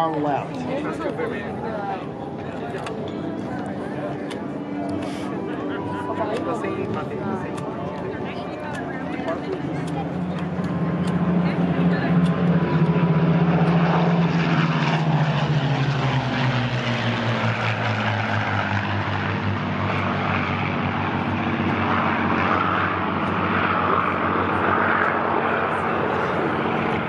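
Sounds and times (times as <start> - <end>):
propeller planes flying past: 0.0 - 27.0.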